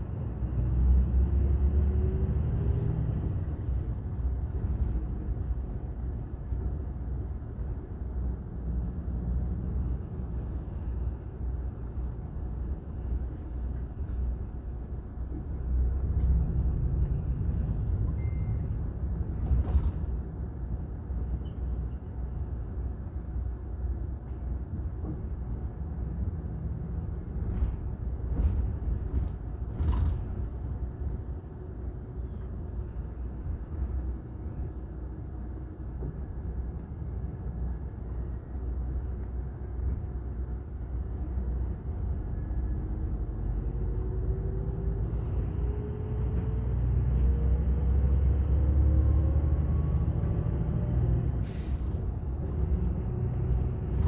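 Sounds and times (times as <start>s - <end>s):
vehicle road and engine rumble: 0.0s - 54.0s.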